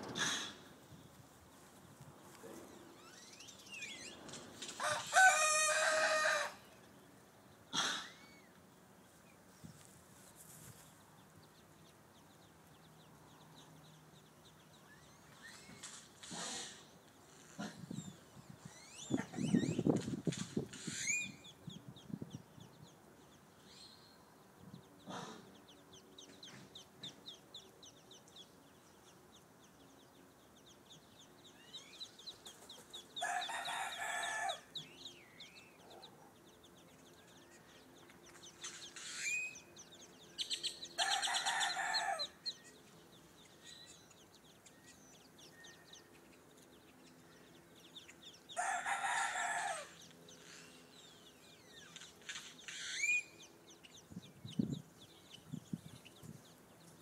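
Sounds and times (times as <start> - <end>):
ducklings peeping: 7.5 - 23.6, 24.6 - 57.0.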